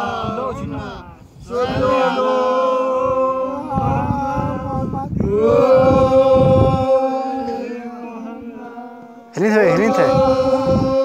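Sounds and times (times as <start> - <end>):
men singing folk song: 0.0 - 11.0.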